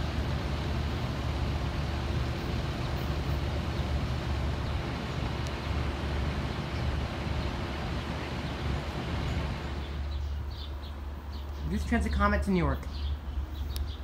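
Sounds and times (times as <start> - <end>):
train rumbling away: 0.0 - 11.3.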